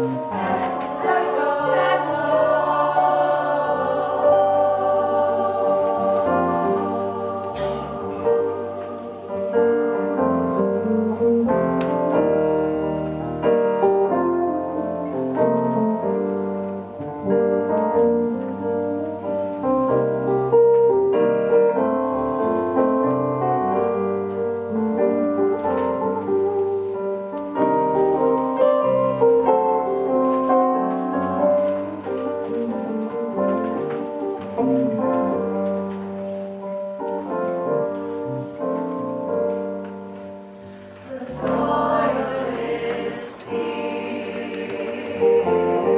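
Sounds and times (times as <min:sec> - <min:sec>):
piano instrumental music: 0:00.0 - 0:45.9.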